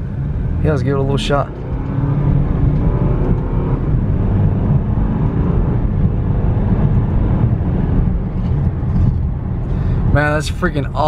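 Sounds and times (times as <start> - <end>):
car engine accelerating: 0.0 - 11.0
road rumble: 0.0 - 11.0.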